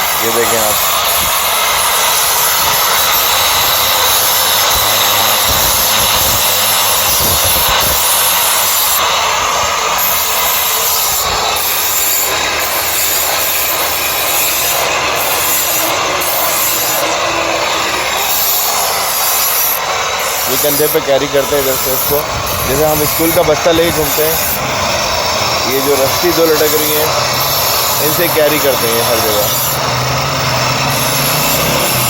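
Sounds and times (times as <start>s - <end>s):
knife grinding on sharpening wheel: 0.0s - 32.0s.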